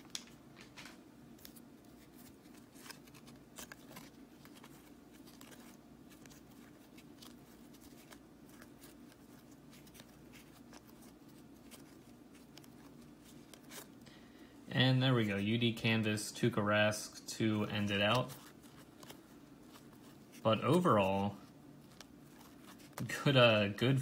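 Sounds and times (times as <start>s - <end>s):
trading cards clicking and sliding: 0.0s - 14.2s, 17.5s - 24.0s
low steady room hum: 0.0s - 24.0s.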